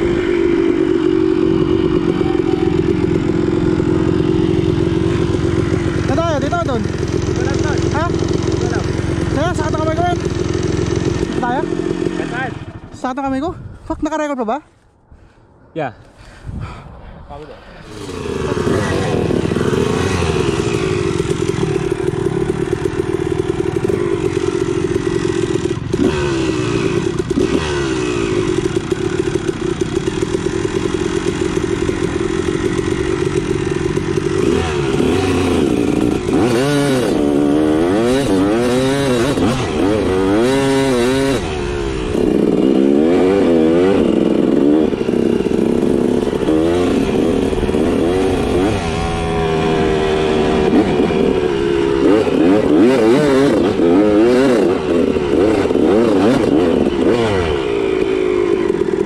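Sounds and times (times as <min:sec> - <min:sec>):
dirt bike engine revving: 0:00.0 - 0:13.5, 0:17.6 - 0:59.0.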